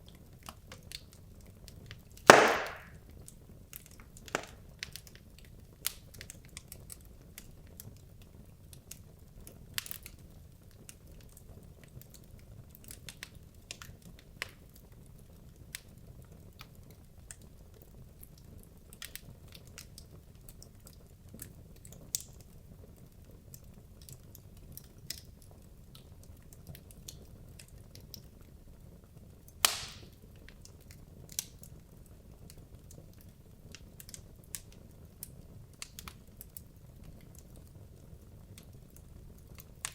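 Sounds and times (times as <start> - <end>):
fire crackling and popping: 0.0 - 39.9
low rumble of flames: 0.1 - 39.9.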